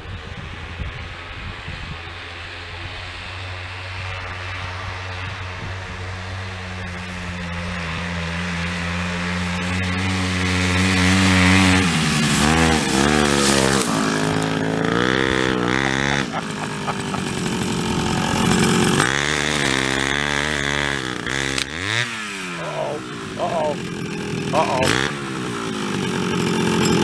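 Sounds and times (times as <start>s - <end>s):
snowmobile engine revving: 2.0s - 27.0s.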